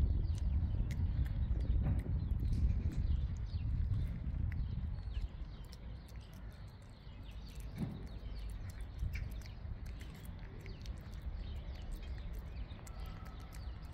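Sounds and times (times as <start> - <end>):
cat chewing and licking: 0.0 - 13.9
low steady rumble: 0.0 - 13.9.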